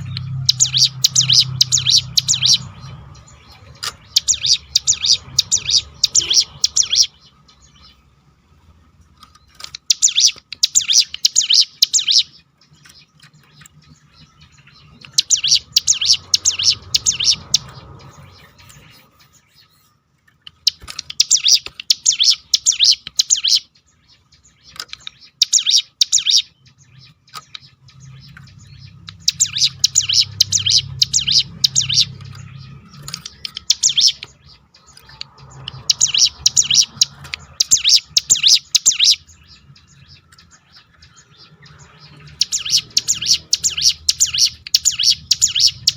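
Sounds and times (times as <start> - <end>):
bird singing high trills: 0.0 - 8.4, 9.2 - 45.9.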